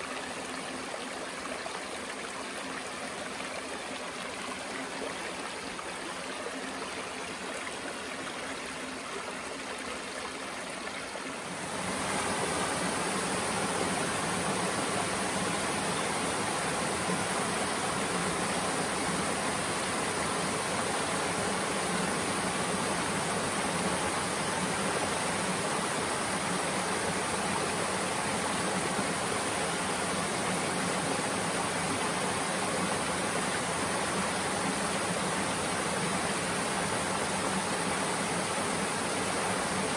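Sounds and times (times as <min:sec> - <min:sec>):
creek water rippling over rocks: 0:00.0 - 0:39.9
small waterfall rushing: 0:00.0 - 0:39.9.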